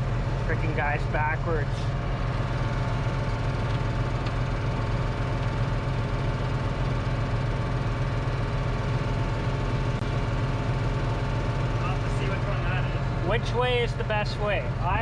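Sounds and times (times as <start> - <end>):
thin steady whine: 0.0 - 15.0
tractor engine drone: 0.0 - 15.0.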